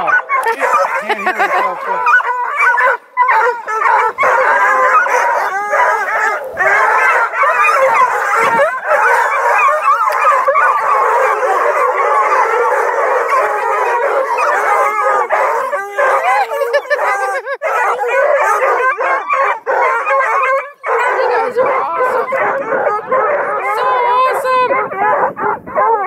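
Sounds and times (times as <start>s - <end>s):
hounds baying and howling: 0.0s - 26.0s.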